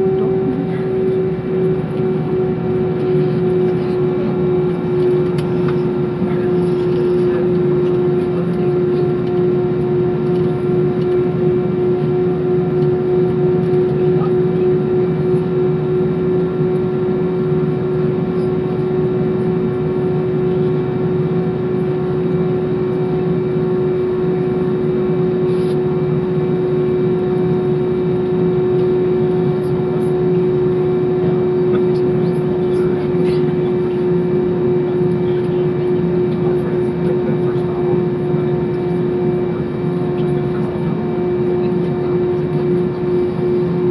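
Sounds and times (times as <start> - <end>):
jet engines droning: 0.0 - 43.9.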